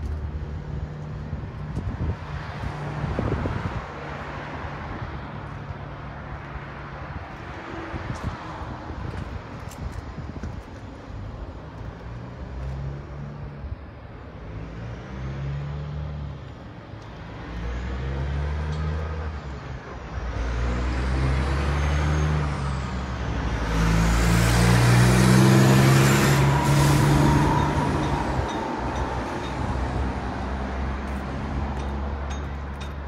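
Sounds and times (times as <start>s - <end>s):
heavy vehicle engine rumbling: 0.0s - 33.0s.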